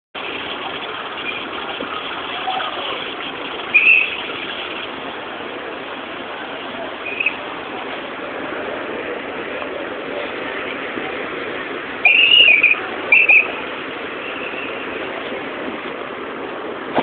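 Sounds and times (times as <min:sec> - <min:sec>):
street crowd: 0:00.2 - 0:17.0
traffic: 0:00.2 - 0:17.0.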